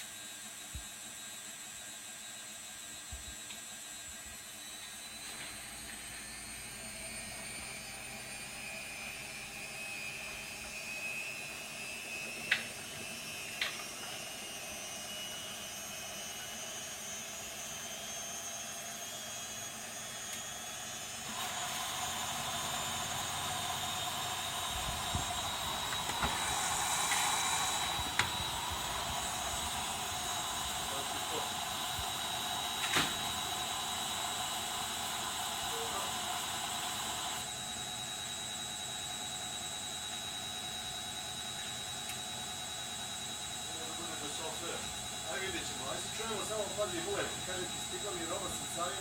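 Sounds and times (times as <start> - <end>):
washing machine motor whine: 0.0 - 49.0.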